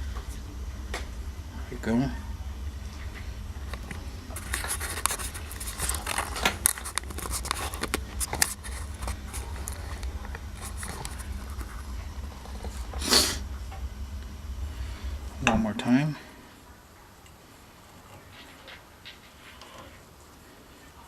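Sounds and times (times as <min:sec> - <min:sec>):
low hum: 0:00.0 - 0:19.4.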